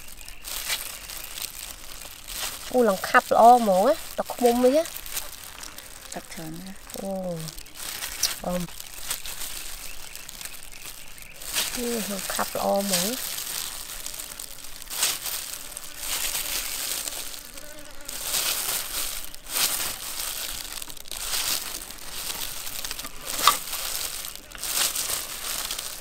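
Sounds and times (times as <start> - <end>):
honeycomb wax crushing: 0.0 - 26.0
plastic glove crinkling: 0.0 - 26.0.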